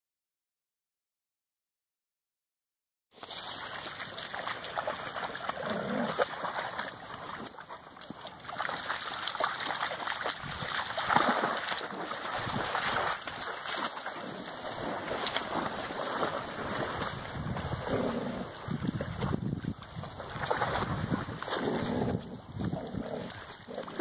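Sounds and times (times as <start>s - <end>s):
dogs splashing through water: 3.2s - 24.0s.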